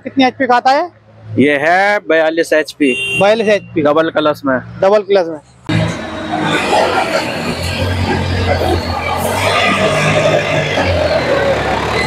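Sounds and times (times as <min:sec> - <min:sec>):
voices: 0:00.0 - 0:12.0.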